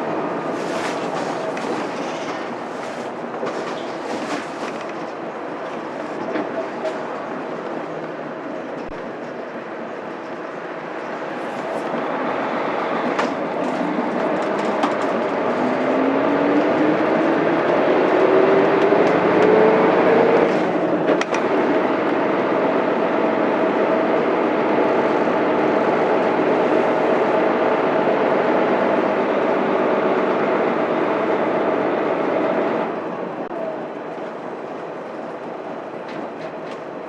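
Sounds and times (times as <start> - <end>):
bus diesel engine accelerating: 0.0 - 37.0
road noise: 0.0 - 37.0.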